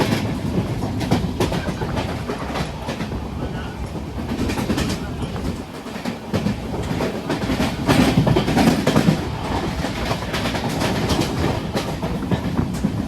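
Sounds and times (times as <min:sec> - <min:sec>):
freight train passing: 0:00.0 - 0:13.0
wheels clacking over rail joints: 0:00.0 - 0:13.0.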